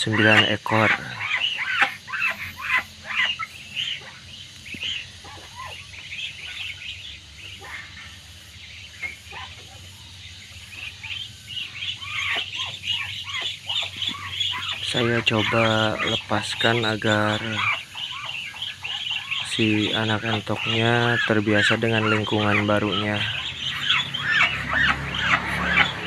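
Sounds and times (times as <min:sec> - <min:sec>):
ducklings peeping: 0:00.0 - 0:26.0.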